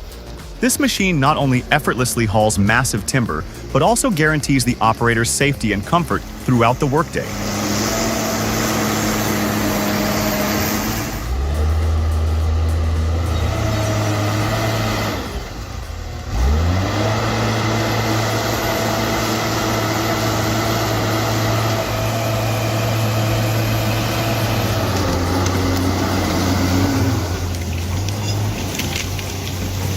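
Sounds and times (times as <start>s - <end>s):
skidder engine under load: 0.0s - 29.9s.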